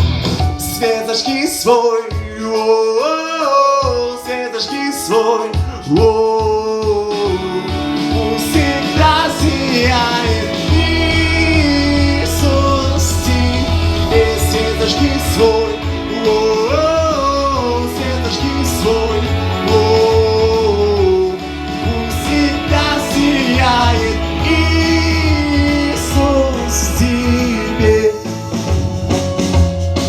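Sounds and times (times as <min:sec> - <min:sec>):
song with guitar bass and beat: 0:00.0 - 0:30.0.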